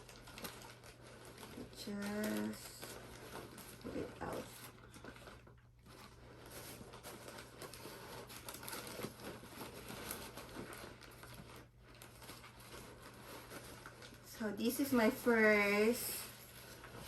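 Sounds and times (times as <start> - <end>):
plant packaging rustling: 0.0 - 17.0.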